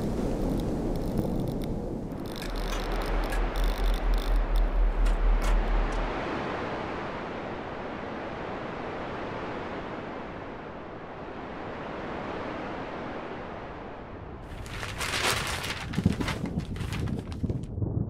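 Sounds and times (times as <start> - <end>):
steady rushing noise: 0.0 - 17.4.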